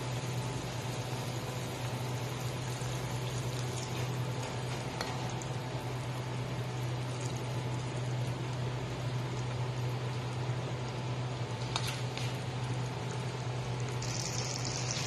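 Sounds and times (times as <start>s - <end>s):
sauce simmering in pan: 0.0s - 15.0s
steady low hum: 0.0s - 15.0s.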